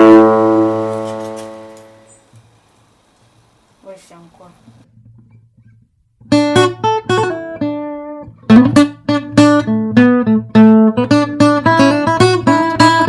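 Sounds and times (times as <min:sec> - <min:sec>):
acoustic guitar playing: 0:00.0 - 0:03.6, 0:04.4 - 0:13.0.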